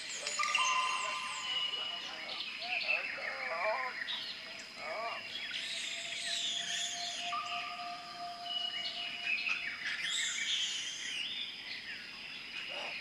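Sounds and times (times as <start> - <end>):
long whistled bird notes: 0.0 - 11.7
birds chirping and trilling: 0.0 - 13.0.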